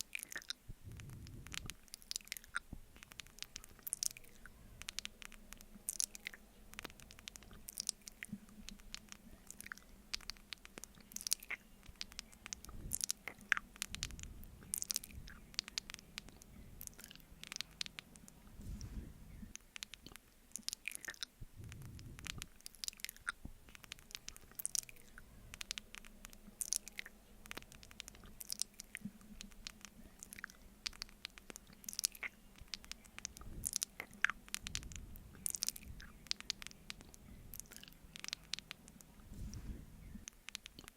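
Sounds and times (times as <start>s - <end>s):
wet sticky mouth smacks: 0.0s - 39.3s, 40.2s - 40.9s.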